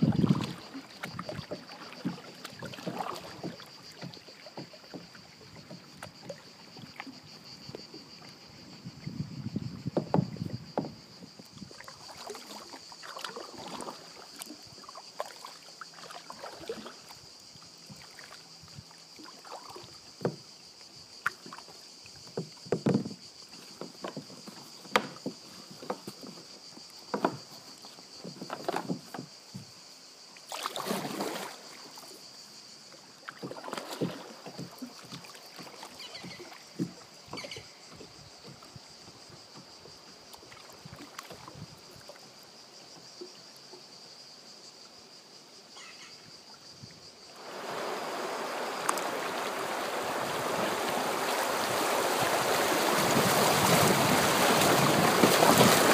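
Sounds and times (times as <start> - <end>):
rush of water: 0.0 - 43.9, 45.7 - 55.9
paddle splashes and drips: 0.0 - 55.9.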